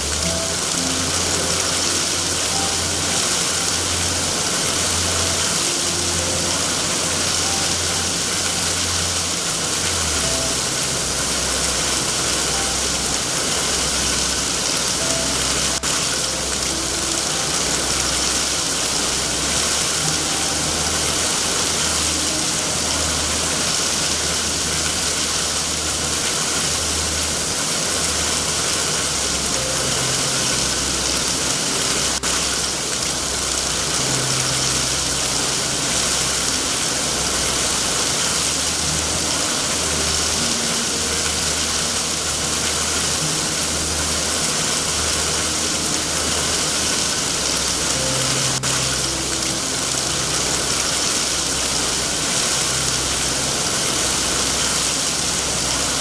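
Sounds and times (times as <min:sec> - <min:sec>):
continuous low rumble: 0:00.0 - 0:56.0
heavy rain: 0:00.0 - 0:56.0.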